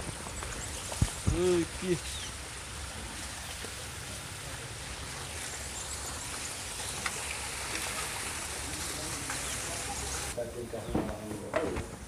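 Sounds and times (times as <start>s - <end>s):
outdoor ambient hiss: 0.0s - 12.0s.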